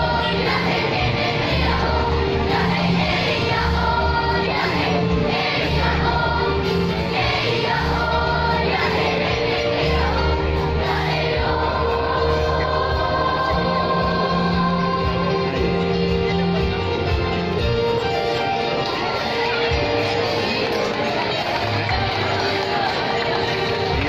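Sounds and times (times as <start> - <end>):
children's choir singing: 0.0 - 17.6, 18.2 - 24.0.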